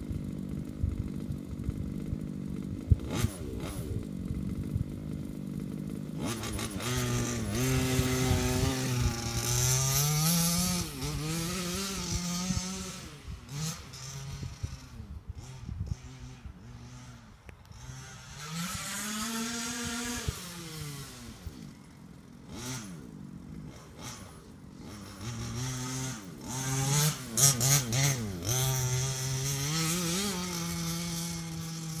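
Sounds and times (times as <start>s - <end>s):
rc truck engine revving: 0.0s - 32.0s.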